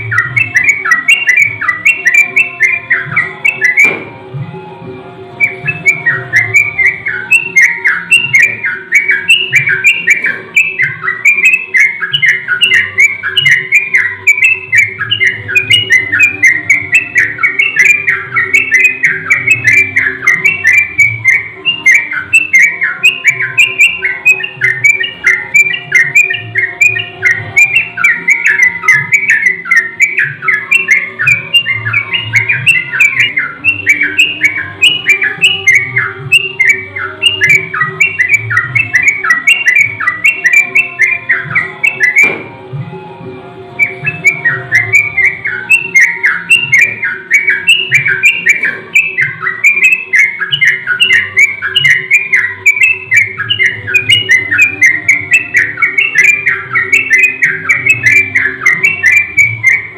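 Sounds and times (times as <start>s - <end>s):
birds chattering: 0.0s - 4.4s, 5.2s - 42.6s, 43.6s - 59.9s.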